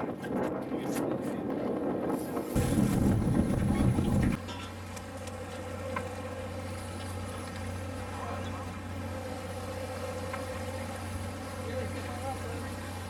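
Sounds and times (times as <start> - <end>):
boat engine humming: 1.4 - 13.0.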